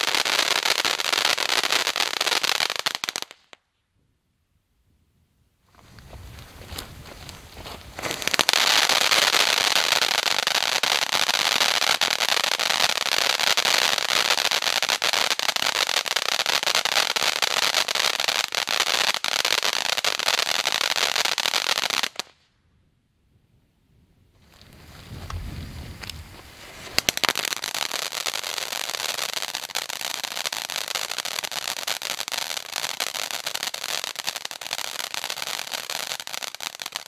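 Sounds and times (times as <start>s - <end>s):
firework hissing and crackling: 0.0s - 3.5s, 7.2s - 22.3s, 24.6s - 37.0s.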